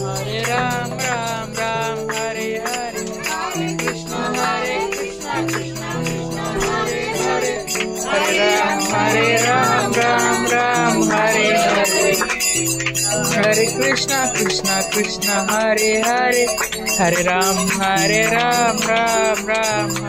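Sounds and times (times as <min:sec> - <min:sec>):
jingling percussion: 0:00.0 - 0:20.0
voices singing a chant: 0:00.0 - 0:20.0.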